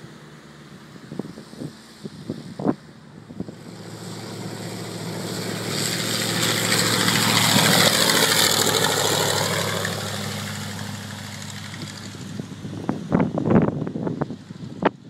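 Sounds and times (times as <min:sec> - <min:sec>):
propeller aircraft flying past: 0:00.0 - 0:15.0.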